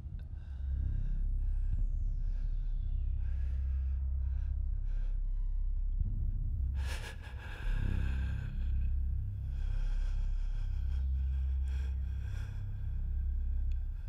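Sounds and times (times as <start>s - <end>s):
deep low rumble: 0.0s - 14.0s.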